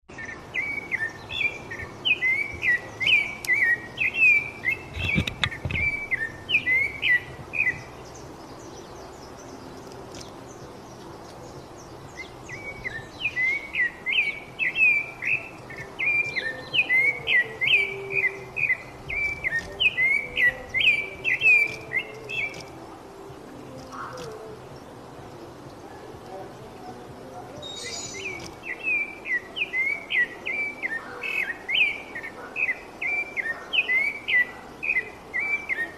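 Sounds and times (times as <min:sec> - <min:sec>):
bird chirping: 0:00.1 - 0:35.9.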